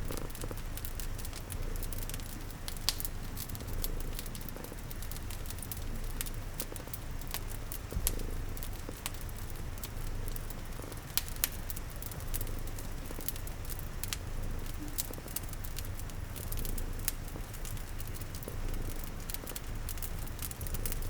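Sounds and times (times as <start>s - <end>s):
cat purring: 0.0s - 21.0s
fireplace crackling and popping: 0.0s - 21.0s.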